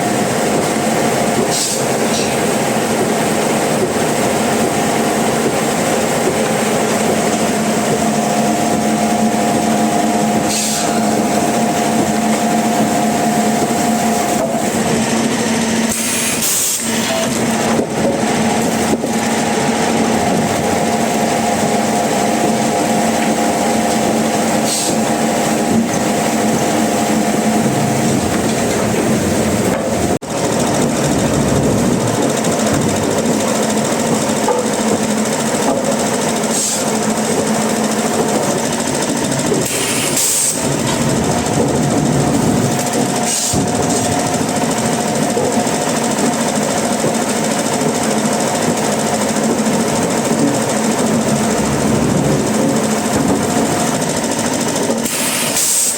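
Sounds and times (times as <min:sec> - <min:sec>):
engine-driven machine droning: 0:00.0 - 0:55.9.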